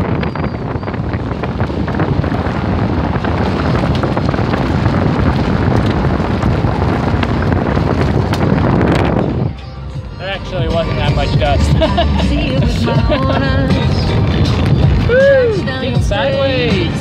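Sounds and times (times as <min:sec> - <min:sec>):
car road and engine noise: 0:00.0 - 0:17.0
wind buffeting microphone: 0:00.0 - 0:17.0.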